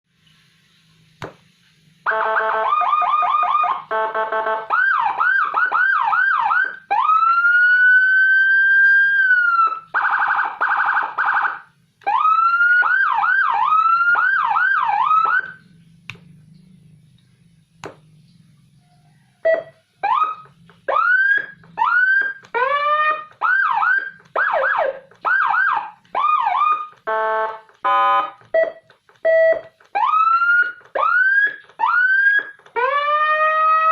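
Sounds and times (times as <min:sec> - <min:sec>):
electronic siren tones: 0:02.0 - 0:17.0, 0:17.8 - 0:33.9.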